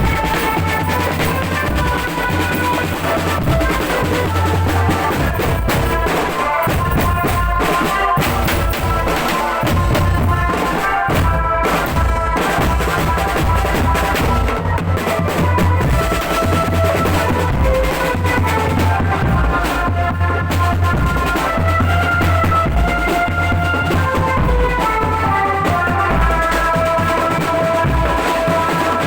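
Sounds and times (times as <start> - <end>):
bass and snare drums beating: 0.0 - 29.0.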